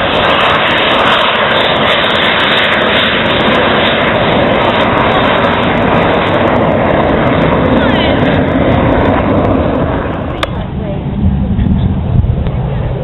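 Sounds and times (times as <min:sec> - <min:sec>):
jets flying over: 0:00.0 - 0:13.0.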